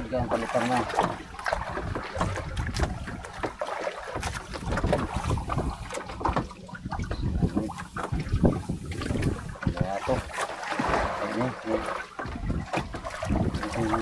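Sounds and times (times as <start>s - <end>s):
water around boat: 0.0s - 14.0s
wind: 0.0s - 14.0s.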